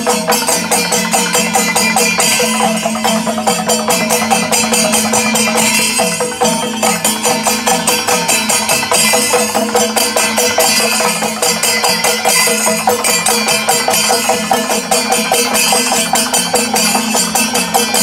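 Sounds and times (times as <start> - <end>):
jangling cymbal strokes: 0.0 - 18.0
steady held tone: 0.0 - 18.0.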